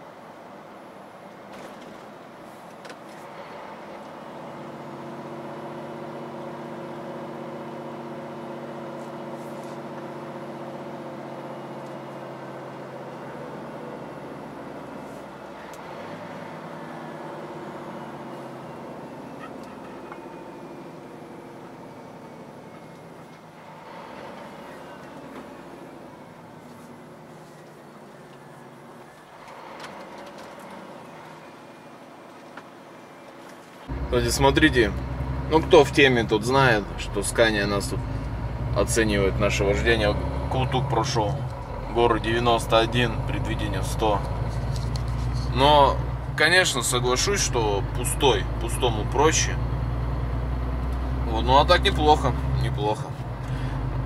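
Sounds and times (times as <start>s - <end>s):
truck diesel engine running: 3.2s - 33.2s, 33.9s - 54.0s.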